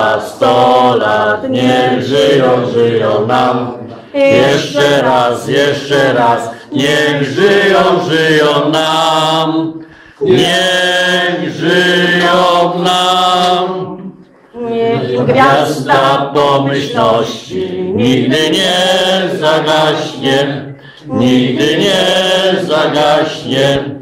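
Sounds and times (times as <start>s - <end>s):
group singing without instruments: 0.0s - 24.0s.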